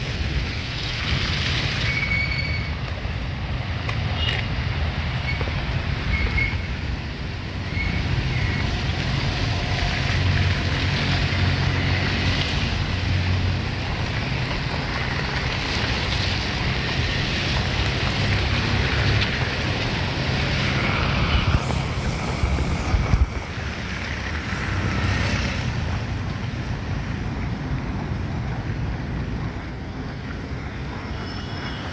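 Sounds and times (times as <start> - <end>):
road traffic: 0.0 - 31.9
wind on microphone: 0.0 - 31.9.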